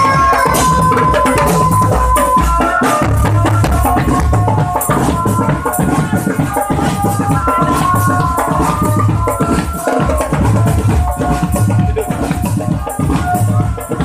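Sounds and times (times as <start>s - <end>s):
marching drum band playing: 0.0s - 14.0s.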